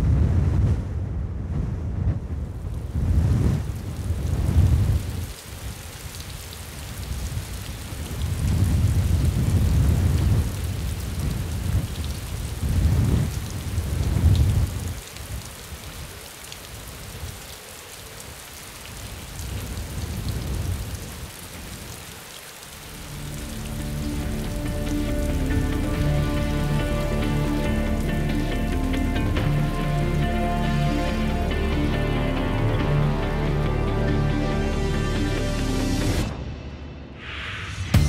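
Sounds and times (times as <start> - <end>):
steady rain falling: 2.1 - 36.4.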